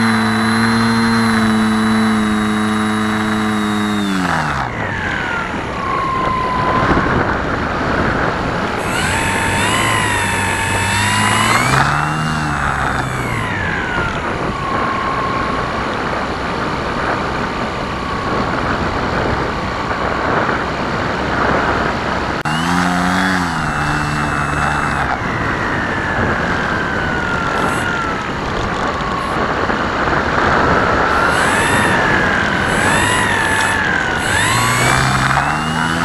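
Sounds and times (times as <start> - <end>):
electric motor and propeller whining: 0.0 - 36.0
wind rush: 4.7 - 22.3, 23.5 - 35.5.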